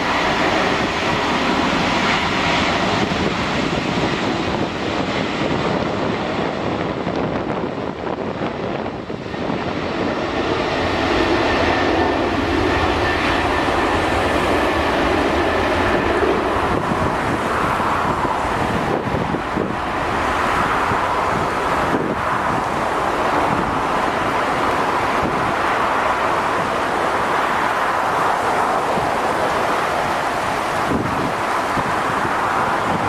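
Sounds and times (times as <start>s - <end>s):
jet engines running: 0.0s - 33.0s
wind buffeting microphone: 0.0s - 33.0s.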